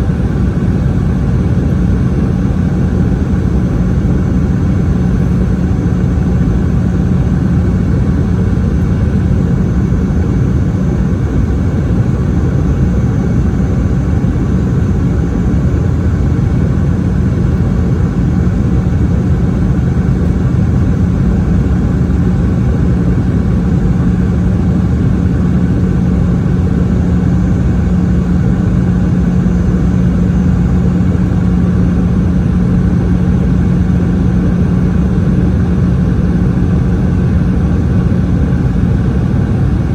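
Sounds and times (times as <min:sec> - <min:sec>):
aircraft cabin engine roar: 0:00.0 - 0:39.9.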